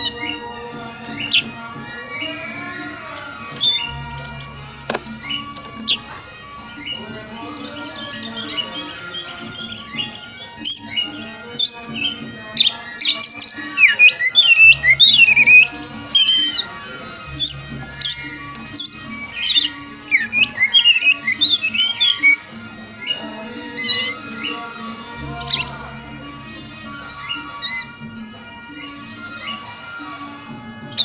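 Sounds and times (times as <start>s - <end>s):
background music: 0.0s - 31.0s
bird song with whistles and squawks: 0.0s - 31.0s.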